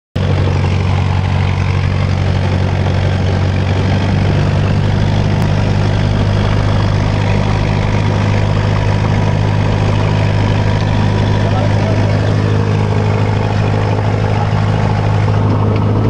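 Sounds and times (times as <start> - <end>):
aircraft engine and propeller drone: 0.2 - 16.0.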